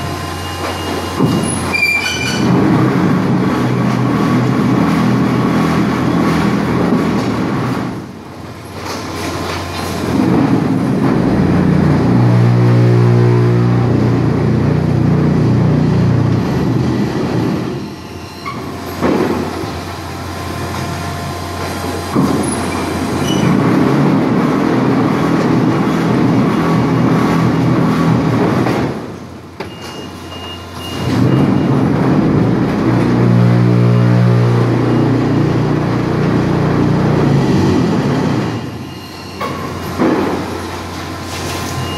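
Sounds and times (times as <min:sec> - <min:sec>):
machinery running: 0:00.0 - 0:41.9.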